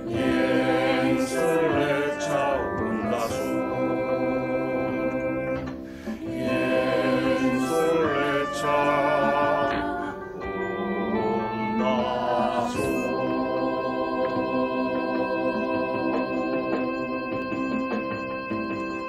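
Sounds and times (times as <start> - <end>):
mixed choir singing: 0.0 - 17.5
instrumental accompaniment: 0.0 - 19.0.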